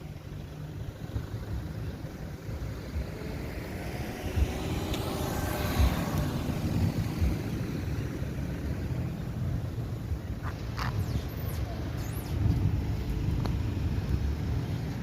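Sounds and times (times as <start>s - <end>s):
motor vehicle approaching: 0.0s - 15.0s
wind rumble on microphone: 2.8s - 15.0s.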